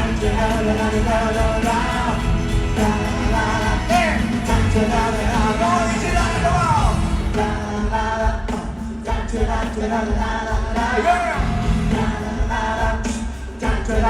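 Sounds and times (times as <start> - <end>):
live pop band with vocals: 0.0 - 14.0.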